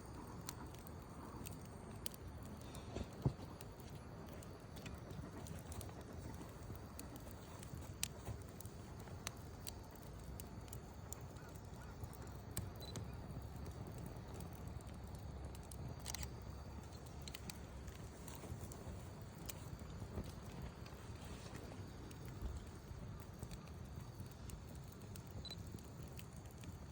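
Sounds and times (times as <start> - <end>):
campfire crackling and popping: 0.0 - 26.9
low fire rumble: 0.0 - 26.9.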